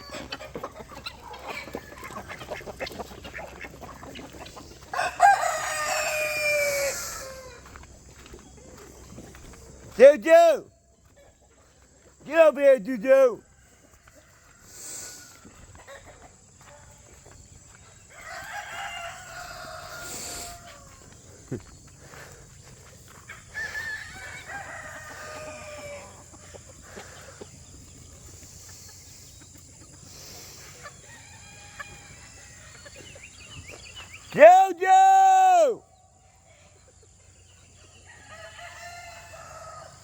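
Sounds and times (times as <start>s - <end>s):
roosters crowing: 0.0s - 3.0s, 4.0s - 10.6s, 12.2s - 16.5s, 17.6s - 36.2s, 37.4s - 40.0s.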